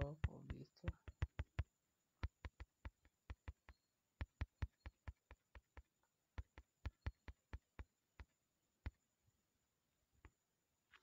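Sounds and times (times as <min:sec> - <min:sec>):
taps on a touchscreen: 0:00.0 - 0:09.0.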